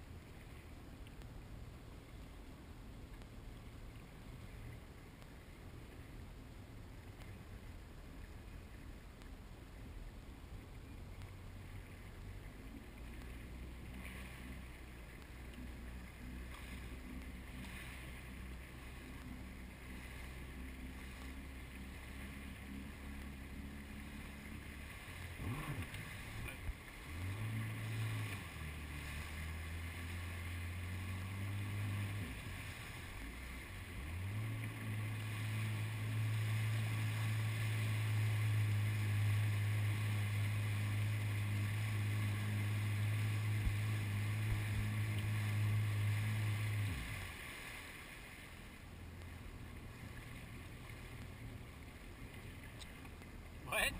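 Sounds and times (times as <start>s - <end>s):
wind and water rushing: 0.0s - 53.9s
jet ski engine revving: 10.7s - 53.9s.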